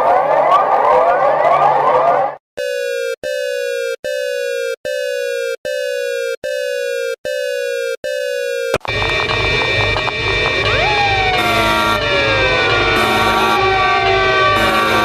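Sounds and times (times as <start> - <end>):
emergency alert beeps: 2.6 - 15.0.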